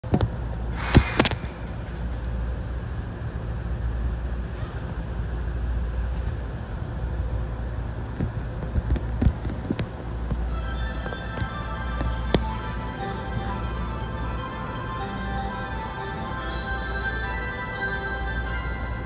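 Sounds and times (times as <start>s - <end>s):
train car hum: 0.0s - 19.0s.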